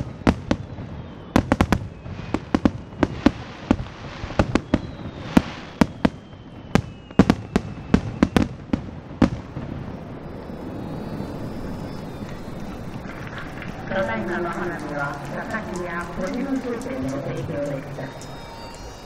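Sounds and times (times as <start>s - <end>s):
fireworks cracks and bangs: 0.0s - 19.0s
low background noise: 0.0s - 19.0s.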